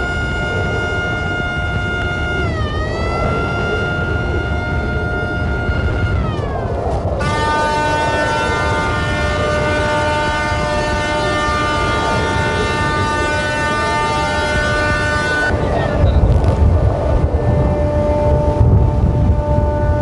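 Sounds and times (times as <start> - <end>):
ship's horn blast: 0.0 - 20.0
wind buffeting microphone: 0.0 - 20.0.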